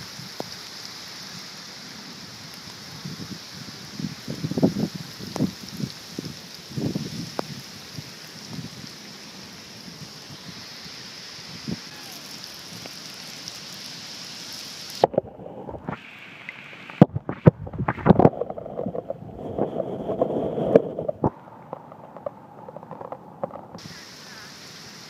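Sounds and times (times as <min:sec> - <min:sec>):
heavy rain on water: 0:00.0 - 0:25.0.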